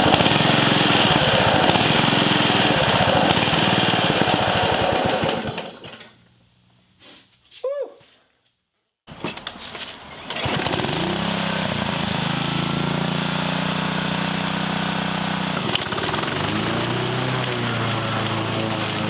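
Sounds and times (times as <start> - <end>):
lawn mower engine running: 0.0 - 6.4, 9.1 - 19.0.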